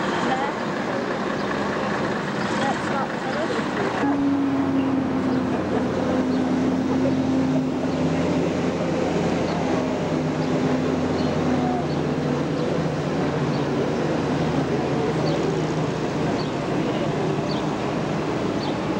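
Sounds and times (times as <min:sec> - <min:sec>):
truck engine driving past: 0:00.0 - 0:18.9.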